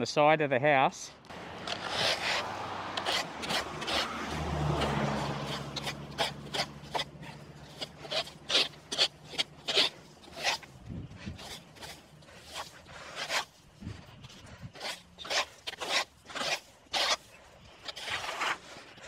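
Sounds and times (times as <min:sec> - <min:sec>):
rake scraping on brick pavers: 0:01.3 - 0:19.0.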